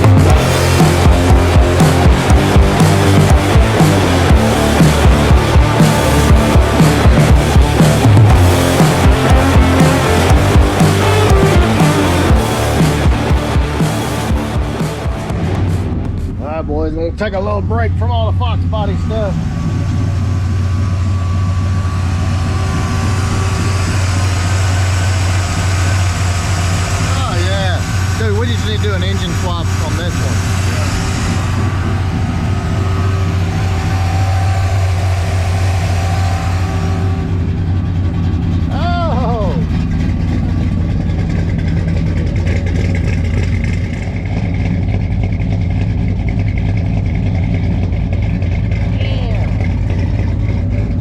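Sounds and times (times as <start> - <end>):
truck engine idling: 0.0 - 51.0.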